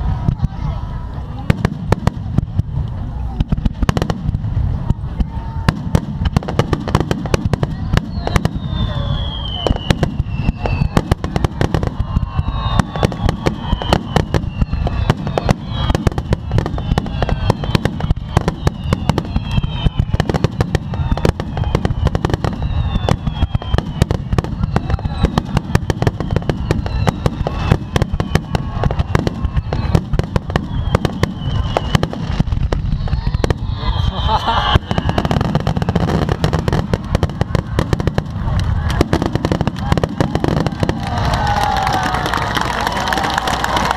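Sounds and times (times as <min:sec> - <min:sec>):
fireworks explosions and crackling: 0:00.0 - 0:43.9
fireworks whistles: 0:05.1 - 0:43.9.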